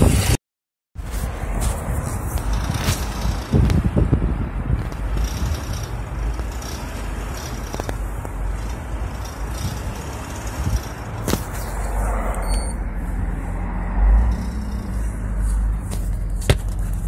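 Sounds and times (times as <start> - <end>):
engine running with metallic rattle: 1.0 - 17.0.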